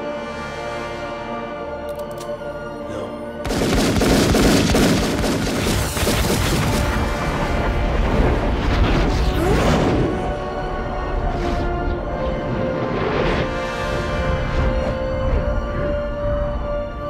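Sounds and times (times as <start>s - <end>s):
dramatic score music: 0.0s - 17.0s.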